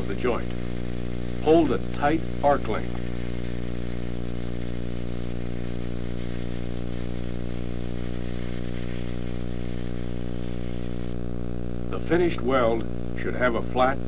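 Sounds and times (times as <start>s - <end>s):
welding arc hissing: 0.0s - 13.1s
electrical hum: 0.0s - 14.0s.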